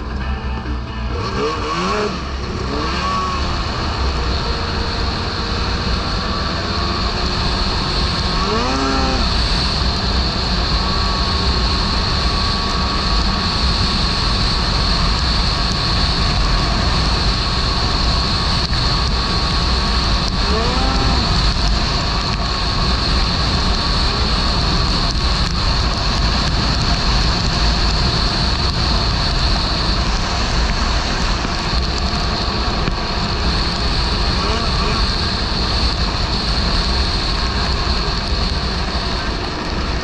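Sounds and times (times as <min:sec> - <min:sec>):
snowmobile engine running: 0:00.0 - 0:40.0
steady high whine: 0:00.0 - 0:40.0.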